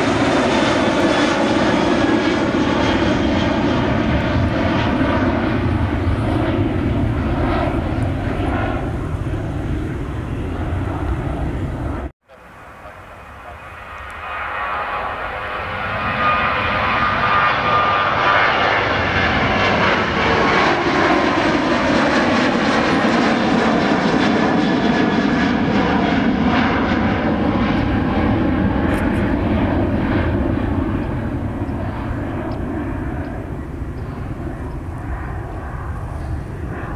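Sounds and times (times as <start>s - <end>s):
jet airliner engines roaring: 0.0s - 36.9s.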